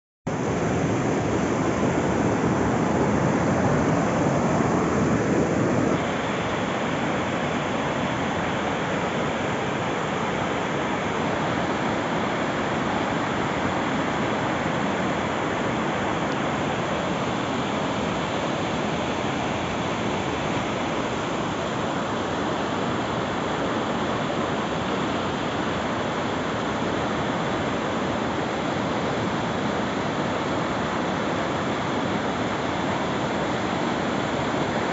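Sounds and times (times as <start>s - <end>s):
river water rushing: 0.3s - 34.9s.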